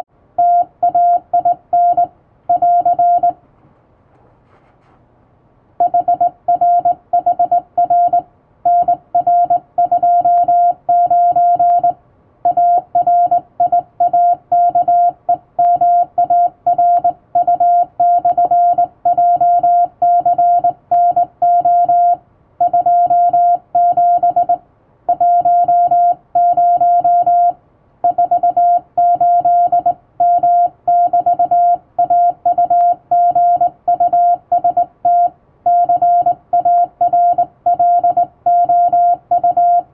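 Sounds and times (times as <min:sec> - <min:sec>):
morse code sidetone beeps: 0:00.4 - 0:03.4, 0:05.8 - 0:39.9.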